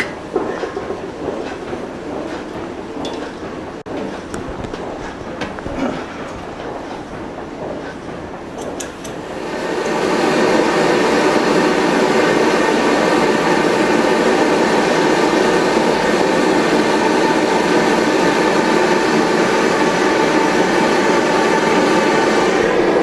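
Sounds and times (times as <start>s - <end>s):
heat blower running: 0.0s - 23.0s.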